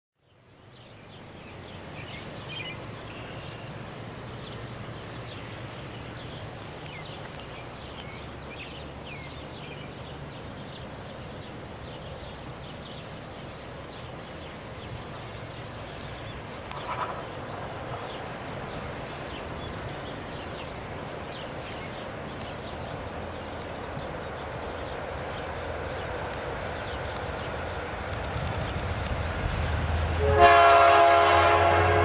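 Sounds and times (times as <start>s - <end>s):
birds chirping: 0.3s - 28.8s
distant diesel locomotive rumble: 0.6s - 32.0s.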